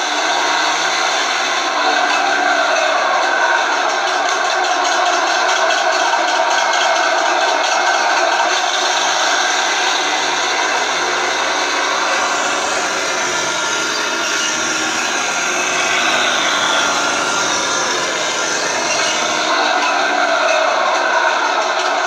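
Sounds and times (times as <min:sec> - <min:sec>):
model tank running: 0:00.0 - 0:22.0.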